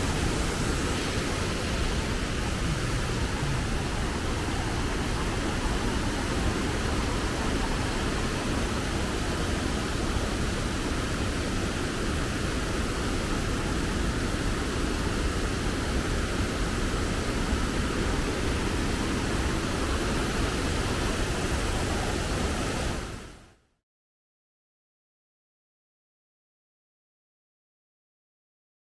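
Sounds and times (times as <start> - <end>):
waterfall roaring: 0.0 - 23.2.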